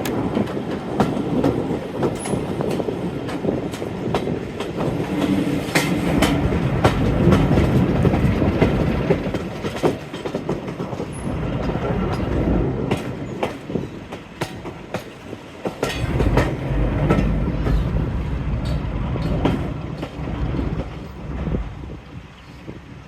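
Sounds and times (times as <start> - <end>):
low train rumble: 0.0 - 23.0
train wheels clicking over rail joints: 0.0 - 23.0.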